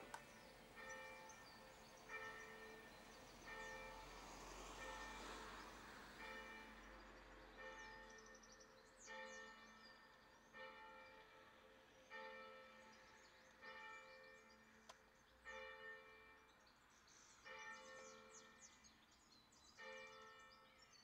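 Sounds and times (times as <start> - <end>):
faint church bell ringing: 0.0 - 21.0.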